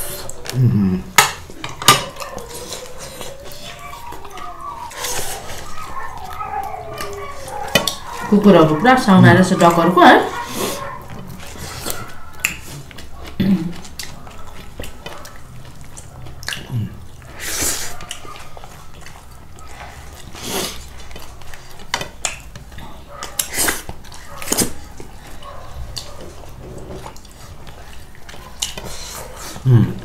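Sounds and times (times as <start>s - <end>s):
mouth noises of eating: 0.0s - 30.0s.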